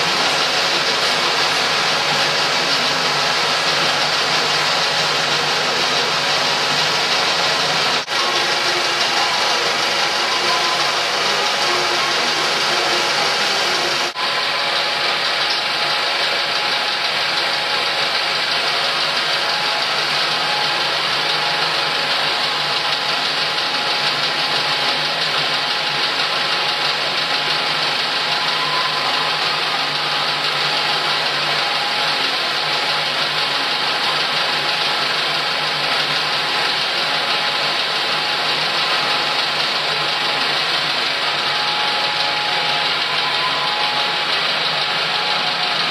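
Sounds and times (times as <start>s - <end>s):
film projector whirring: 0.0s - 45.9s.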